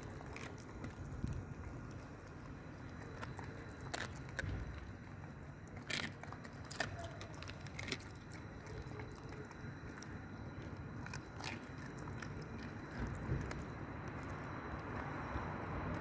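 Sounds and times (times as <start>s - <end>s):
dog crunching bones: 0.0s - 16.0s.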